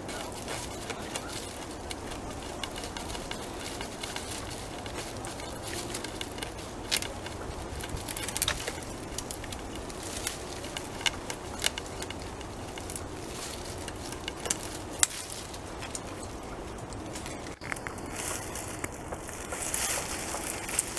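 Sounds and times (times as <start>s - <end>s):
beaver gnawing wood: 0.0s - 20.9s.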